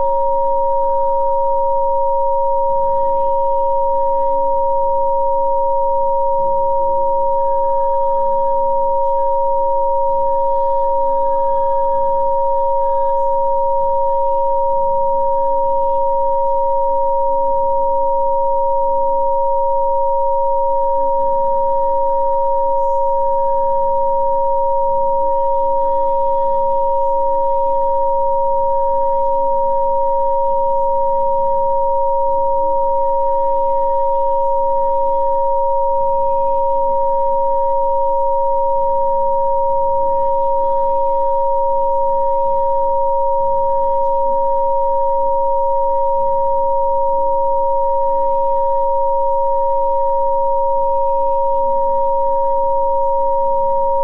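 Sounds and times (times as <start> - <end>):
two steady electronic sine tones: 0.0 - 54.0.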